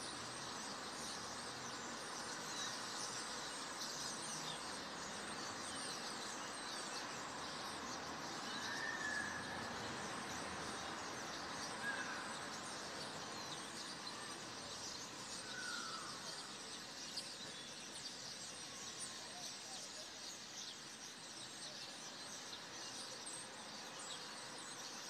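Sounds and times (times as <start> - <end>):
outdoor background hiss: 0.0 - 25.0
small birds chirping: 0.0 - 25.0.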